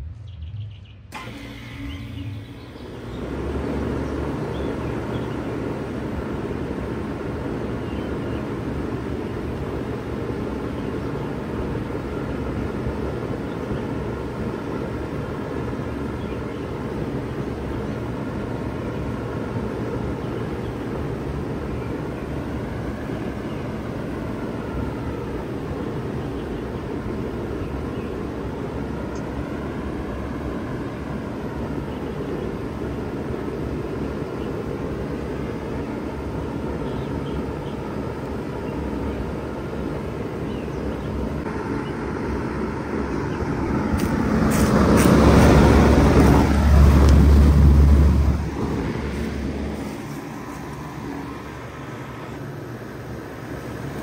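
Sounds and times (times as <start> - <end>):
compressor humming: 0.0 - 54.0
heat pump fan whooshing: 0.0 - 54.0.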